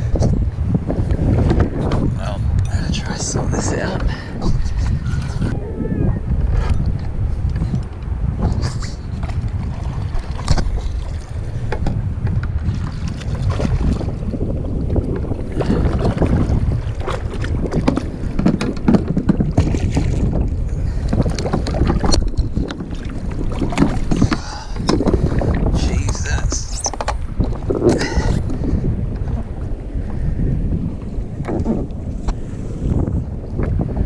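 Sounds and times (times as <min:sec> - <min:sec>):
water splashing around kayak: 0:00.0 - 0:34.0
wind buffeting microphone: 0:00.0 - 0:34.0.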